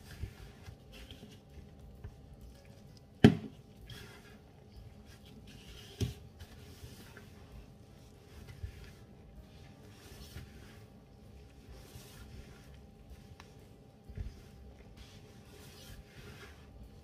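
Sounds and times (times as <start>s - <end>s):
hands crumbling dough in a bowl: 0.0s - 17.0s.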